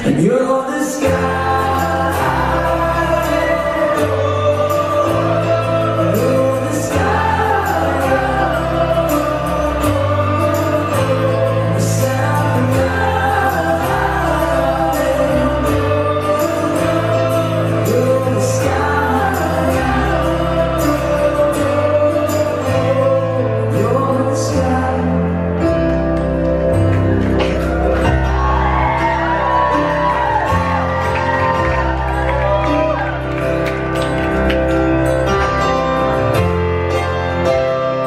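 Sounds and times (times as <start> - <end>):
person singing: 0.0 - 33.6
live pop-rock band: 0.0 - 38.0
bass line: 1.0 - 38.0.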